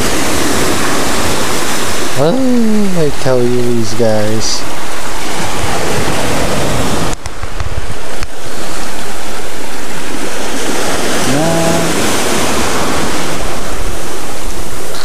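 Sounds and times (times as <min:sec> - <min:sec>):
waves breaking on a beach: 0:00.0 - 0:15.0
wind on microphone: 0:00.0 - 0:15.0.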